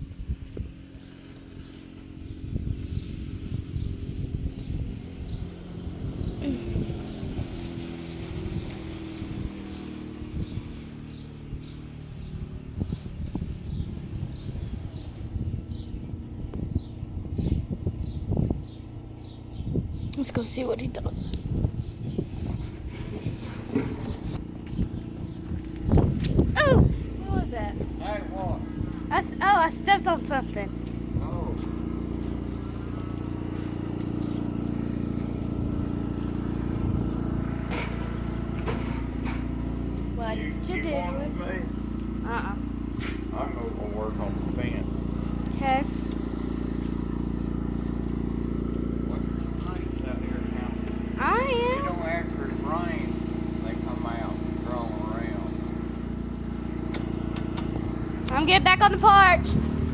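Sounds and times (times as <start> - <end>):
engine: 0.0 - 59.9
insects trilling: 0.0 - 59.9.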